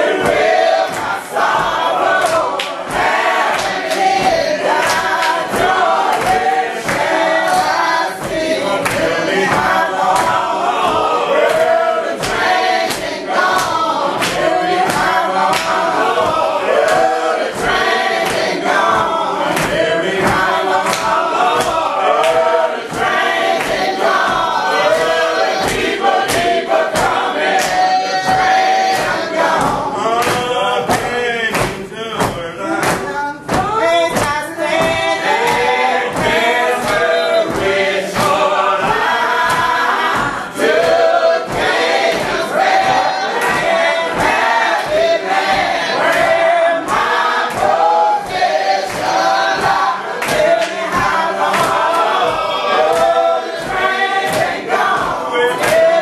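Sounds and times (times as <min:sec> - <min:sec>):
congregation singing gospel song: 0:00.0 - 0:56.0
hand claps keeping time: 0:00.0 - 0:56.0.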